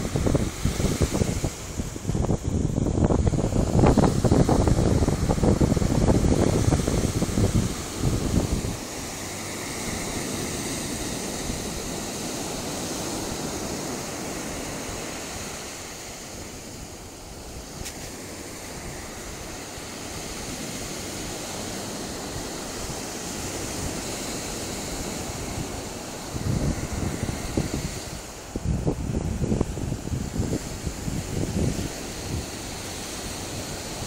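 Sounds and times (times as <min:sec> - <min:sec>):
small waves breaking on shore: 0:00.0 - 0:34.0.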